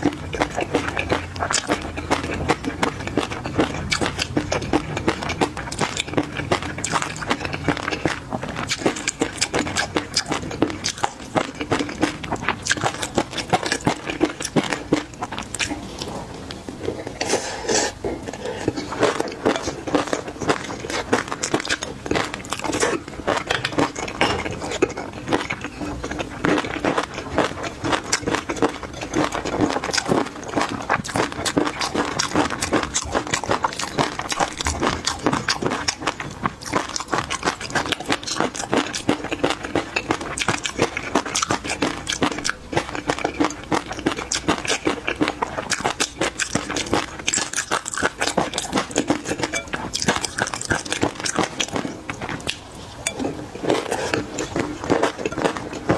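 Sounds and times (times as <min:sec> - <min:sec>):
chewing and crunching: 0:00.0 - 0:55.9.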